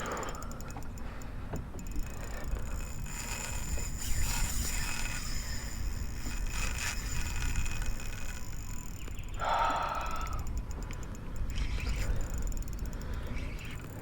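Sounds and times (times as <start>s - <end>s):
fishing reel ticking: 0.0s - 14.0s.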